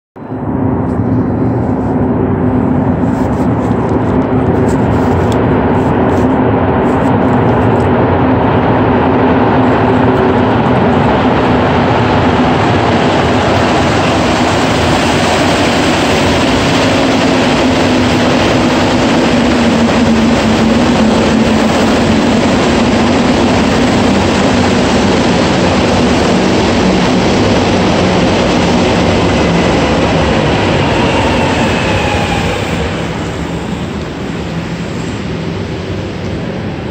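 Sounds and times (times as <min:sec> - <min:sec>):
metro train rumbling into station: 0:00.2 - 0:36.9.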